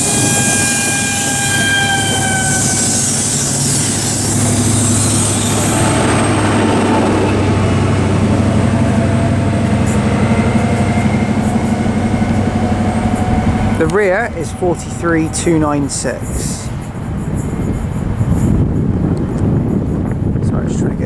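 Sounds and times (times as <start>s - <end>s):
train diesel engines running: 0.0s - 21.0s.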